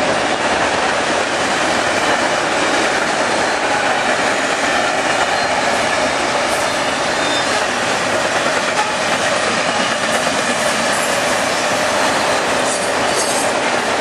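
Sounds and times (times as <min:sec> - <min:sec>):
freight train wheels rolling: 0:00.0 - 0:14.0.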